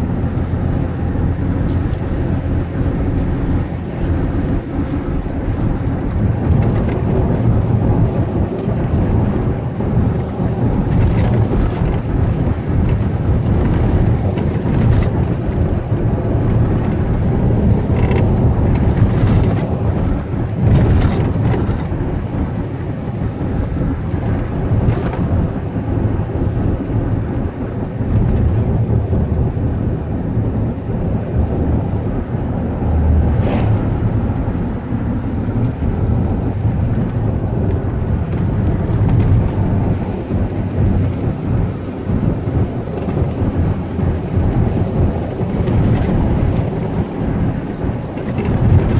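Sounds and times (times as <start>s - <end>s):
car driving rumble: 0.0s - 48.9s.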